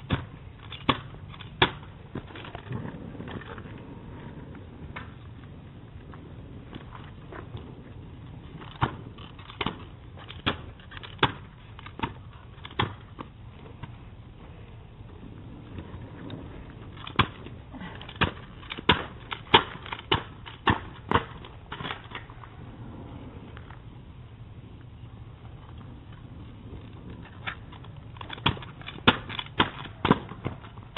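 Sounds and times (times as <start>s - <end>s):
steady low hiss: 0.0s - 30.9s.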